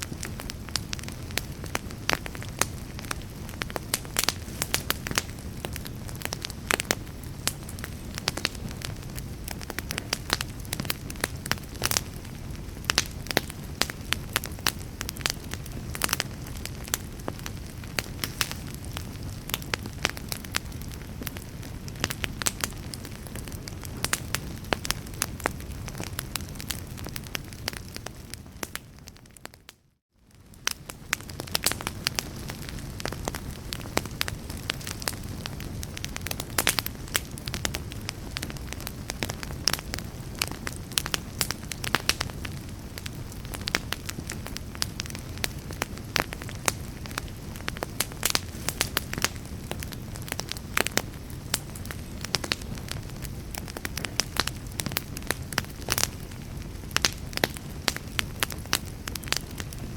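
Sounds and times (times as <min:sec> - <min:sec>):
low rush of flames: 0:00.0 - 0:29.5, 0:30.3 - 0:59.9
wood fire crackling and popping: 0:00.0 - 0:59.9.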